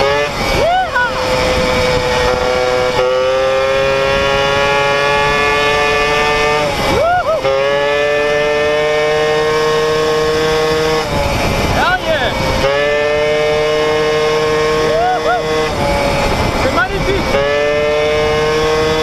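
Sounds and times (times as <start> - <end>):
two-stroke engine revving high: 0.0 - 19.0.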